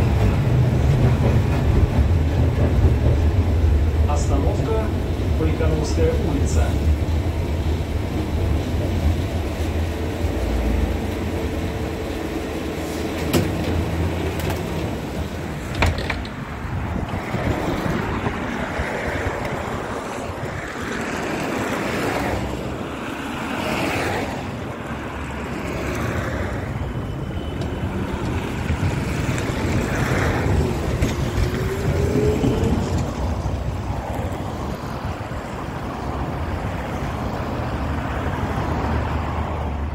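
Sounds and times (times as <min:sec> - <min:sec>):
road traffic: 0:00.0 - 0:39.9
tram wheels rumbling: 0:00.0 - 0:39.9.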